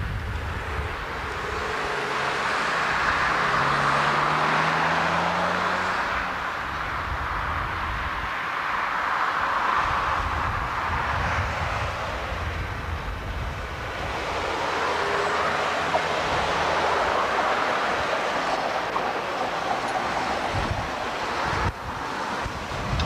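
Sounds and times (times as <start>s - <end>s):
electric train running on rails: 0.0s - 23.0s.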